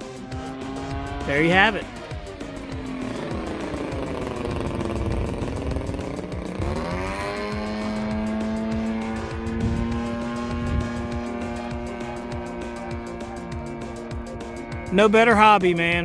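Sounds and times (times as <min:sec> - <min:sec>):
model airplane engine running: 0:00.0 - 0:16.0.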